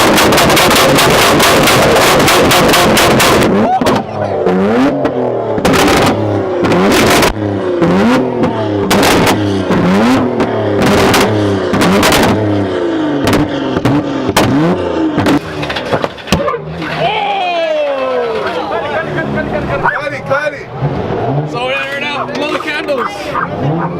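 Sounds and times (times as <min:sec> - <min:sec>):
car engine revving: 0:00.0 - 0:17.4, 0:18.1 - 0:23.9
exhaust cracks: 0:00.0 - 0:23.9.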